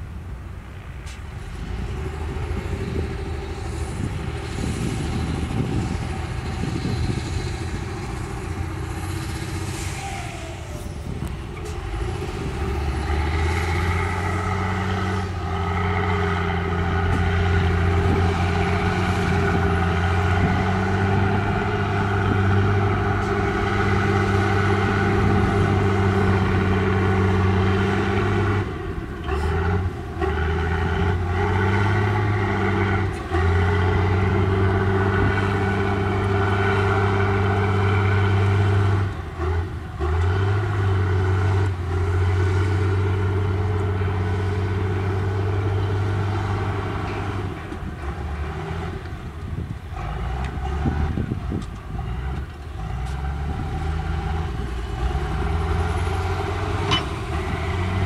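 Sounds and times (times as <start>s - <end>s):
heavy diesel engines droning: 0.0s - 58.0s.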